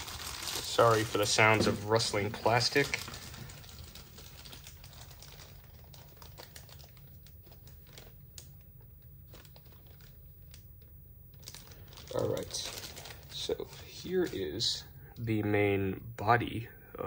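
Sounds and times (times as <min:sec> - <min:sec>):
plastic packaging crinkling: 0:00.0 - 0:14.9.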